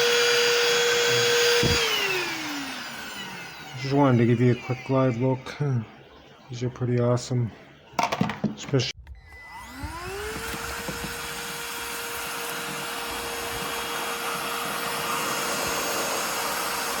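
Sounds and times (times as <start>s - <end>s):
handheld vacuum motor whine: 0.0s - 6.5s, 9.0s - 17.0s.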